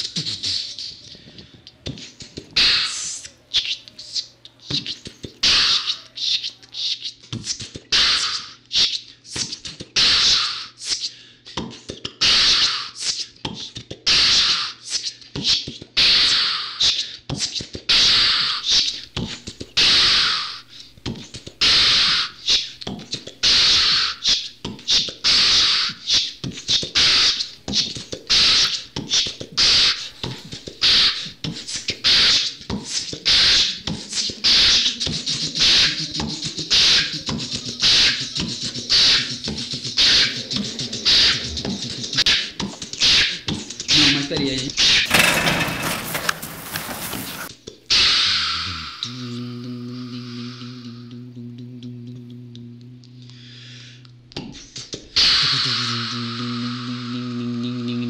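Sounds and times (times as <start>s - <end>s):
beatboxing: 0.0s - 44.6s, 47.7s - 58.0s.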